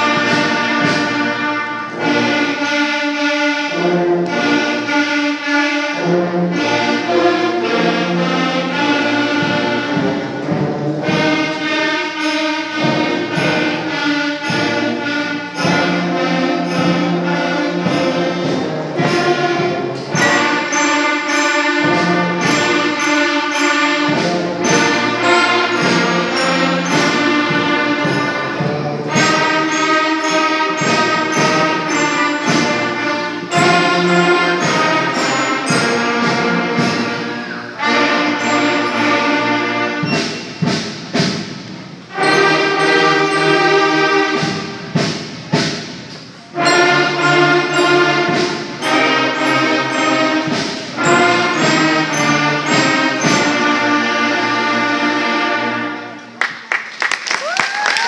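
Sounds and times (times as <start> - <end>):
concert band playing chords: 6.0 - 55.2.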